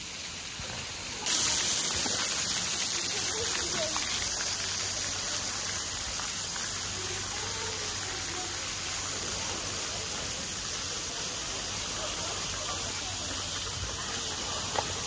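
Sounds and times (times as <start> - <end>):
fountain water rushing: 0.0 - 15.0
faint distant voices: 0.5 - 15.0.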